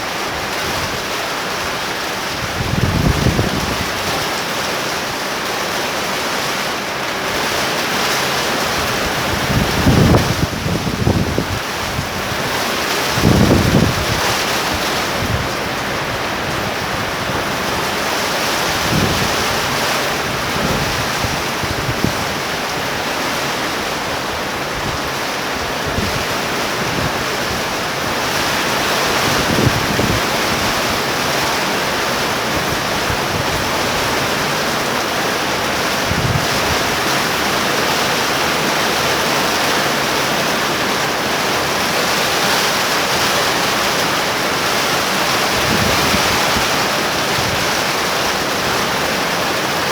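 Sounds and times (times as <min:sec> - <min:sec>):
torrential rain pouring: 0:00.0 - 0:49.9.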